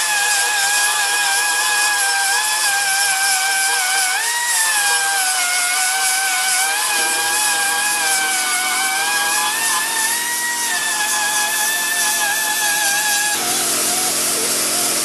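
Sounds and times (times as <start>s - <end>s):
grinder whining on sheet metal: 0.0s - 15.0s.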